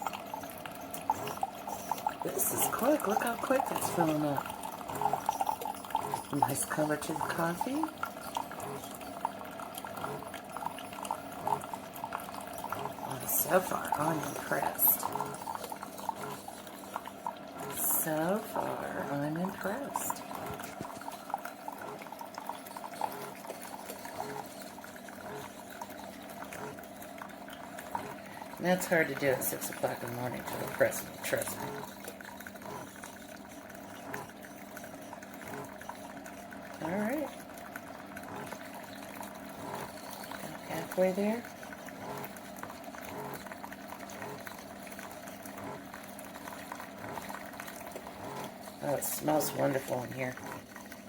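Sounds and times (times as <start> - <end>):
coffee machine gurgling: 0.0 - 51.0
coffee pouring into a glass mug: 0.0 - 51.0.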